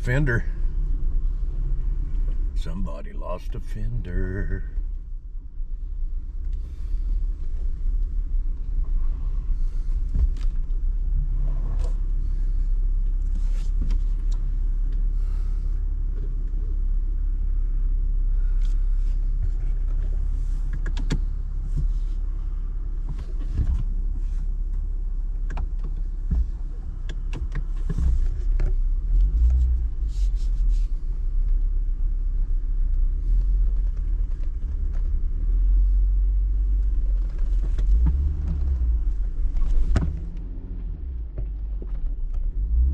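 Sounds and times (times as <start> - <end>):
engine and tyres rumbling: 0.0 - 42.9.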